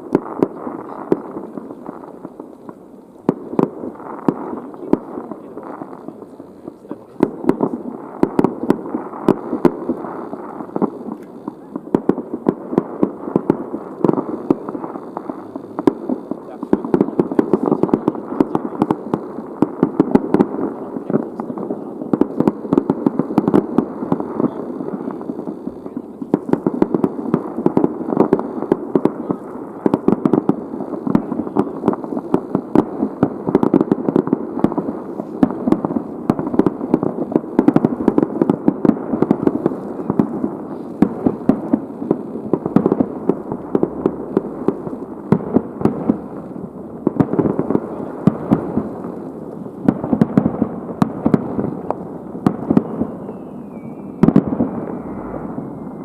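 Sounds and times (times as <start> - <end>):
continuous rumbling: 0.0 - 56.0
firework bangs: 0.0 - 56.0.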